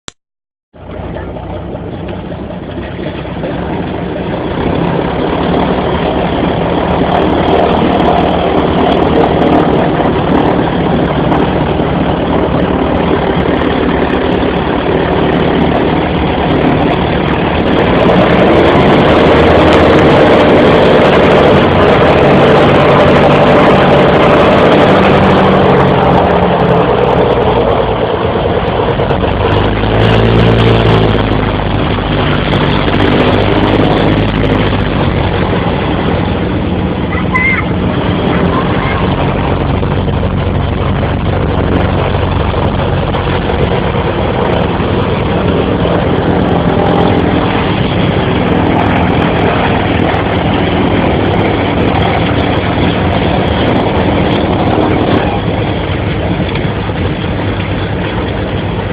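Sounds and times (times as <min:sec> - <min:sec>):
piston aircraft engines running: 0:00.7 - 0:58.9.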